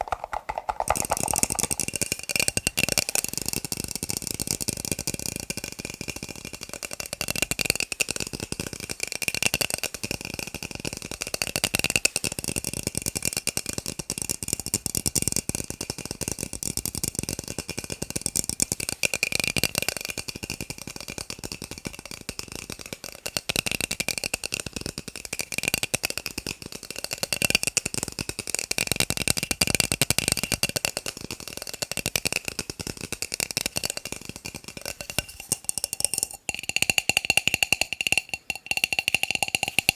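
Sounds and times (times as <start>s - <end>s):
fast tapping on plastic cups: 0.0s - 39.9s.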